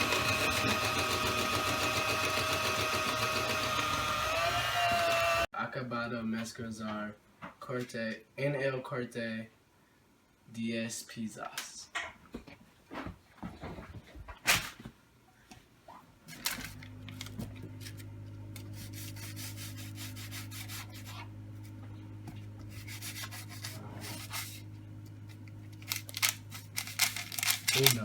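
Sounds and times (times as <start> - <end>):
low electrical hum: 5.5 - 28.0.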